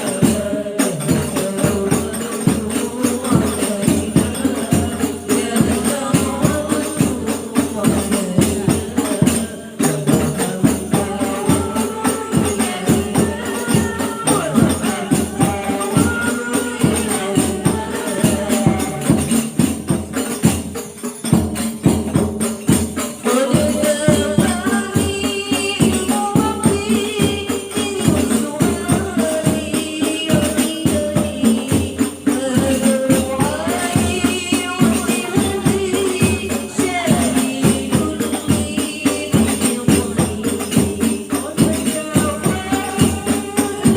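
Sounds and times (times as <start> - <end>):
frame drums beating fast rhythm: 0.0 - 43.9
women singing: 0.0 - 43.9.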